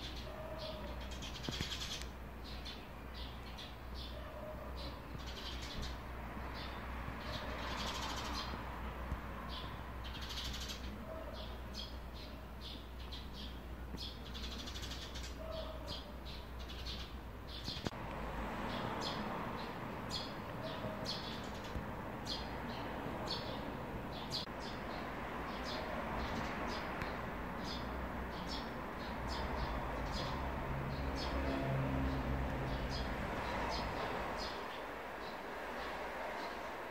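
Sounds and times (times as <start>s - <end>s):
sparrows chirping: 0.0s - 36.9s.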